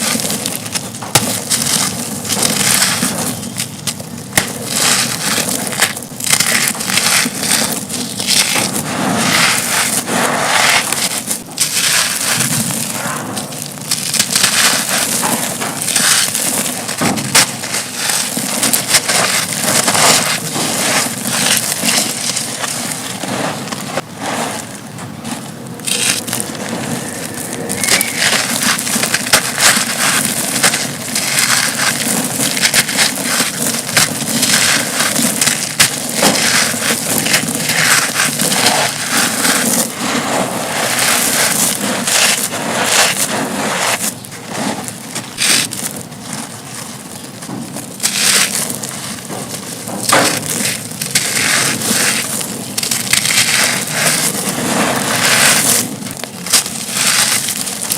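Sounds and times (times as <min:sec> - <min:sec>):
concrete chunks crunching: 0:00.0 - 0:57.9.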